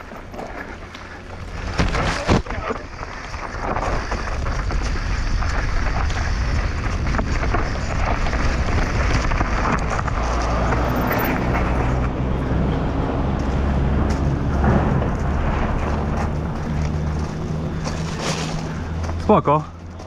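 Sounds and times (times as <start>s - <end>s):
bike knocking and rattling: 0.0s - 20.0s
tyres rushing on trail: 0.0s - 20.0s
wind buffeting microphone: 1.3s - 19.2s.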